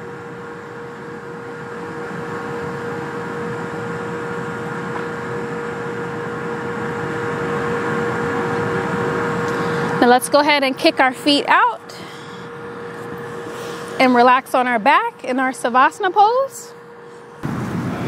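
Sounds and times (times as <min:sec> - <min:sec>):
city traffic hum: 0:00.0 - 0:18.0
machinery hum: 0:00.0 - 0:18.0.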